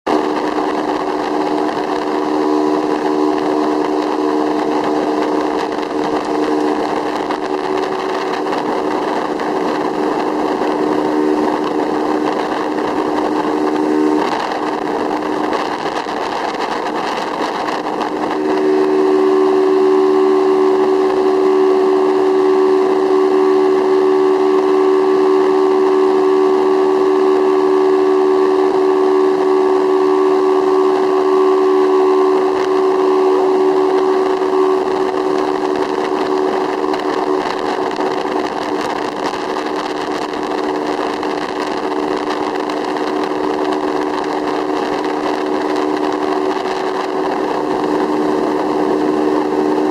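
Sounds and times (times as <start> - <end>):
motorboat engine running: 0.1 - 49.9.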